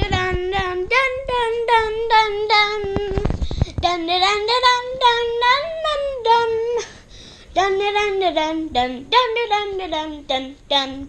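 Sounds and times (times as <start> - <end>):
child singing wordless tune: 0.0 - 11.0.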